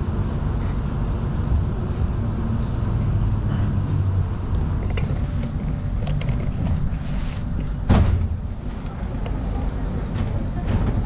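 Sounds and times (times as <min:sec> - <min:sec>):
tram rumble: 0:00.0 - 0:11.0.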